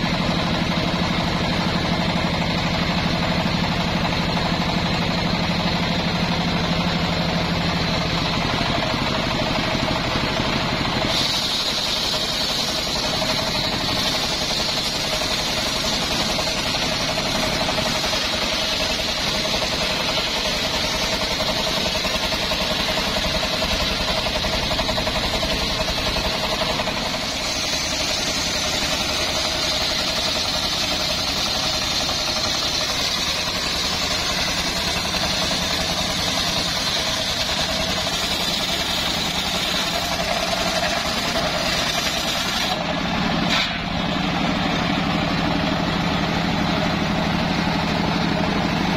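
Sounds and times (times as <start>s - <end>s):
circular saw cutting log: 4.3s - 44.6s.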